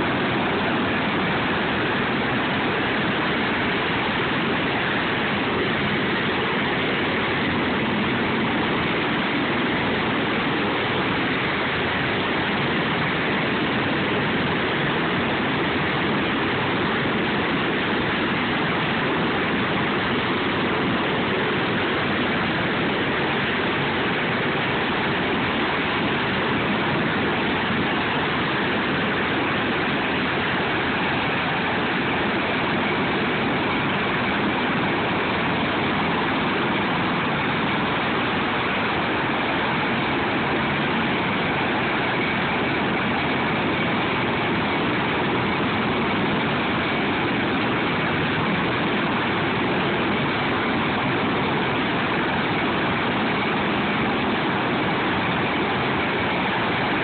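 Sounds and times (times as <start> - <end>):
faint high whine: 0.0 - 57.0
helicopter rotor and turbine noise: 0.0 - 57.0.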